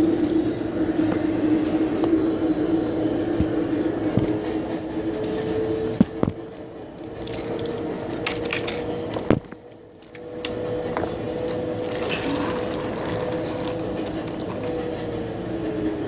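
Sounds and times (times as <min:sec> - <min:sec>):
subway car humming: 0:00.0 - 0:16.0.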